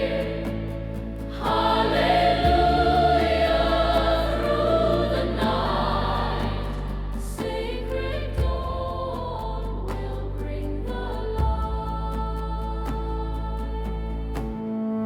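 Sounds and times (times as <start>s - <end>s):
choir holding sustained notes: 0.0s - 15.0s
slow bass line: 0.0s - 15.0s.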